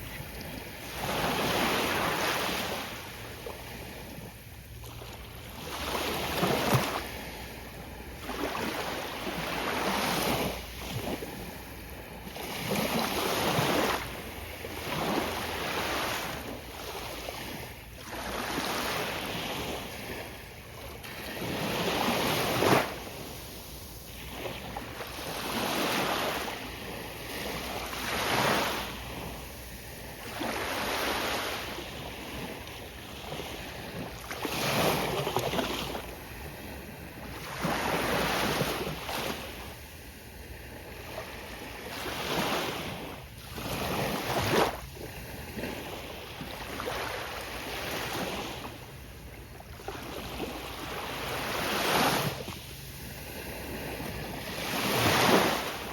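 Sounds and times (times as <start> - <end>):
ocean waves breaking on a beach: 0.0 - 55.9.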